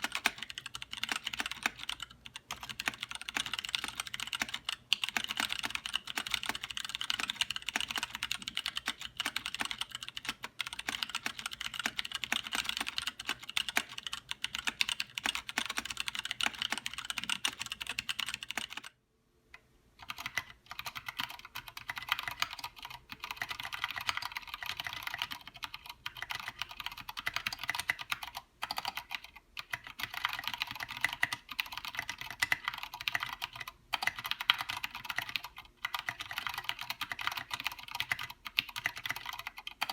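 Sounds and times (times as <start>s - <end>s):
mechanical keyboard typing: 0.0s - 18.9s, 20.0s - 39.9s.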